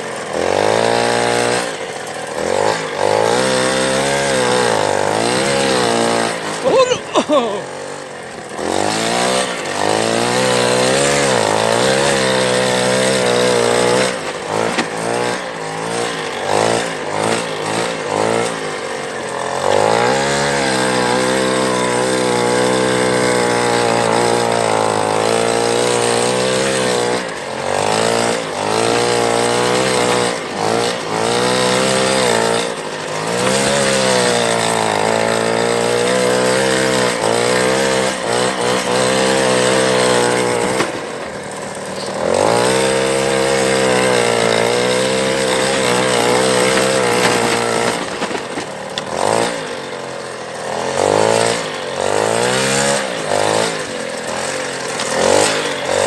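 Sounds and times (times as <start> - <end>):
small engine revving: 0.0 - 56.0.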